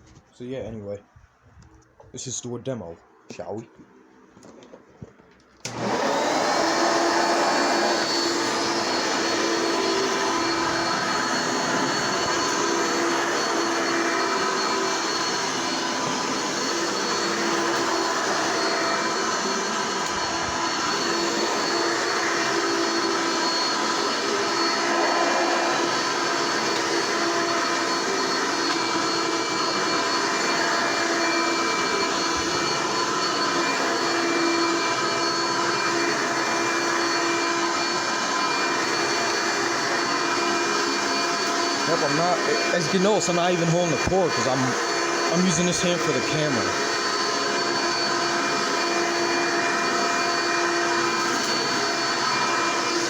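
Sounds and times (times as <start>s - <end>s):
vacuum cleaner running: 4.4s - 53.0s.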